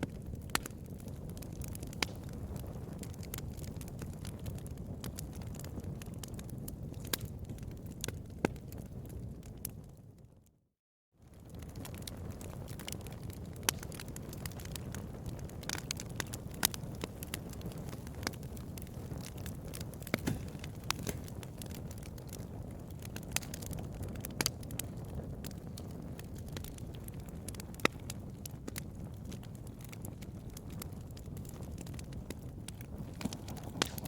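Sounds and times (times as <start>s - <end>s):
fire pops and snaps: 0.0s - 10.0s, 11.3s - 34.0s
wood fire crackling: 0.0s - 10.1s, 11.2s - 34.0s.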